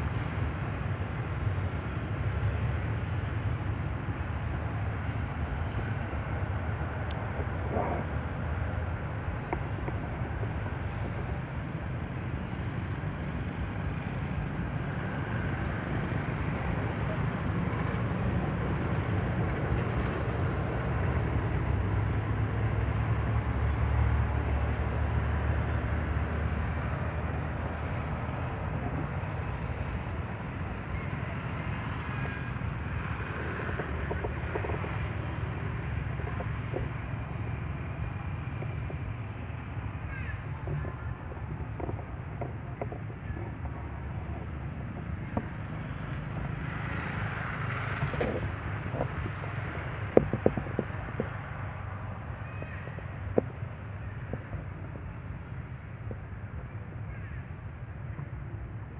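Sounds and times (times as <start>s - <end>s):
outdoor rumble and hiss: 0.0s - 58.9s.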